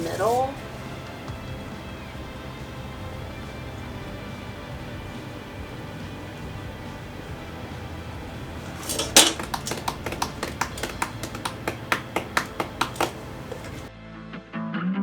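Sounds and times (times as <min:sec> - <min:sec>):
steady background hum: 0:00.0 - 0:13.9.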